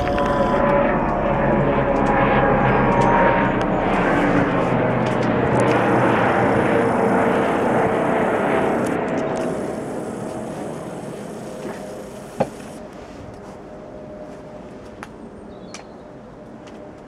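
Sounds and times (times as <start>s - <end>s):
helicopter flying overhead: 0.0s - 17.0s.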